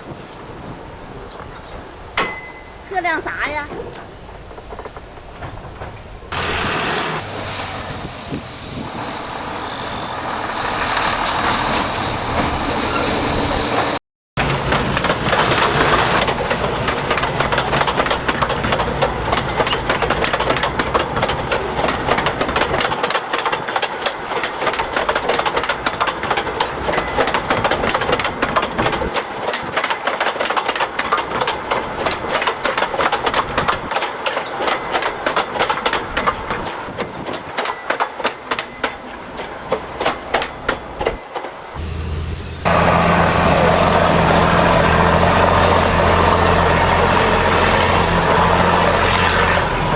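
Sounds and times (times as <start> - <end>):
train wagons clattering on rails: 0.0 - 7.2, 12.3 - 49.9.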